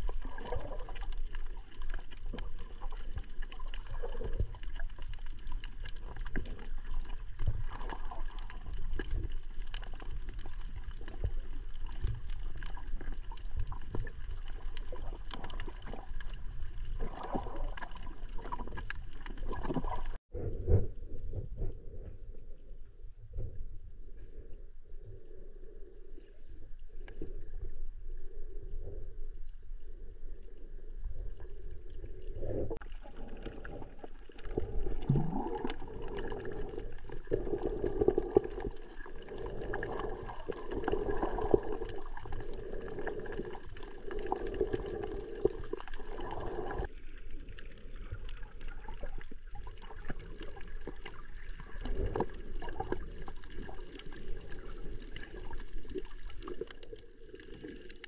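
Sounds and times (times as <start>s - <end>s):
underwater swishing water: 0.0s - 58.0s.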